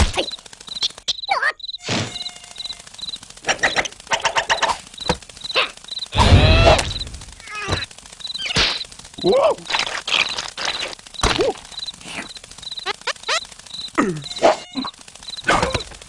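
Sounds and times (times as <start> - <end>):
crickets chirping: 0.2 - 3.9, 5.0 - 6.2, 6.8 - 15.9.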